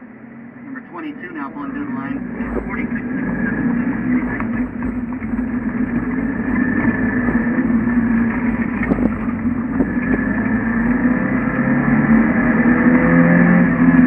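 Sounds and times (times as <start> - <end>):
car engine running inside cabin: 0.0 - 14.0.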